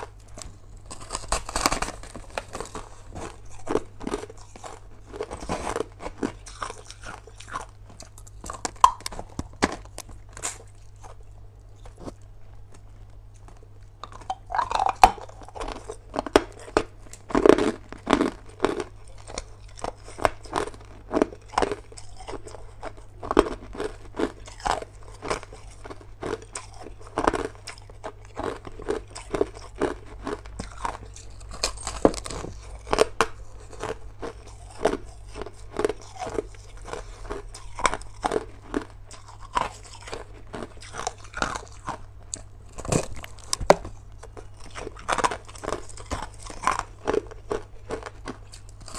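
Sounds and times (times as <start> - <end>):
ice crunching while chewed: 0.0 - 48.9.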